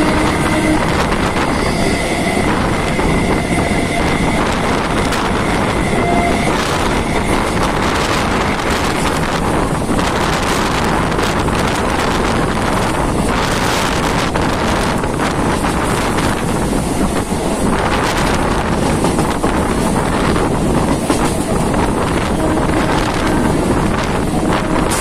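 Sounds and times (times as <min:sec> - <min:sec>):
electric train running: 0:00.0 - 0:25.0
wind rushing over microphone: 0:00.0 - 0:25.0.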